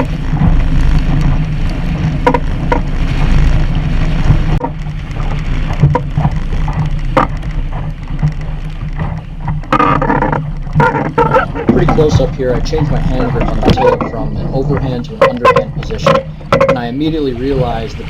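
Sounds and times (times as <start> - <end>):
water noise: 0.0 - 18.0
wind buffeting microphone: 0.0 - 18.0.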